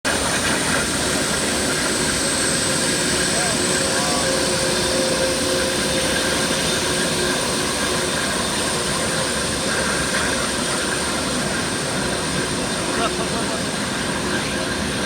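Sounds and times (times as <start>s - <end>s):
jet engine rushing: 0.1s - 15.0s.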